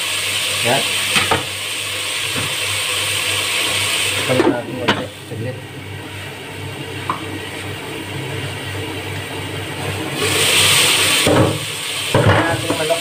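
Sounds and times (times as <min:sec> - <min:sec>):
food sizzling in pot: 0:00.0 - 0:13.0
low mechanical hum: 0:01.1 - 0:12.8.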